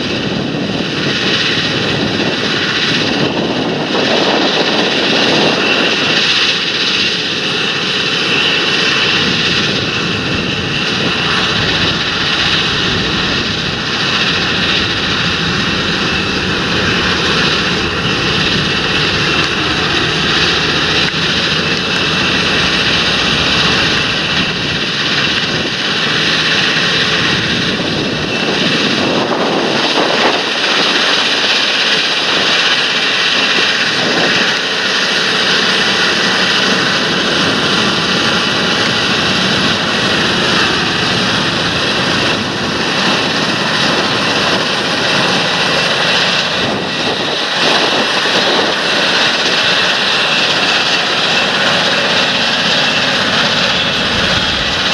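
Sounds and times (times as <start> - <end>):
high whine: 0.0 - 54.9.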